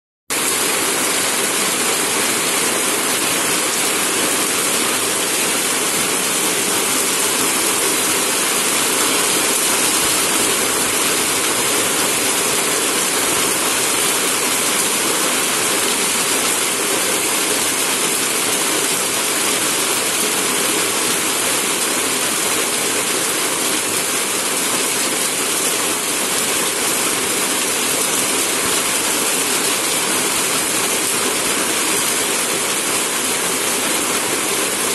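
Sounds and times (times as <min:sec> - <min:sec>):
heavy rain pouring: 0:00.3 - 0:34.9.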